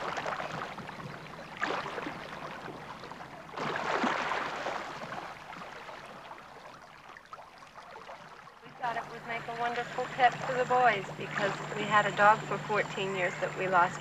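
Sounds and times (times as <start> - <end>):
water splashing and rushing: 0.0 - 11.9.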